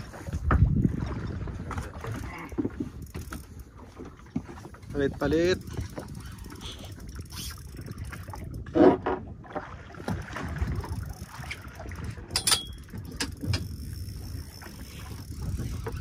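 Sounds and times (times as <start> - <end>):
water wash around boat: 0.0 - 16.0
wind noise: 0.0 - 16.0.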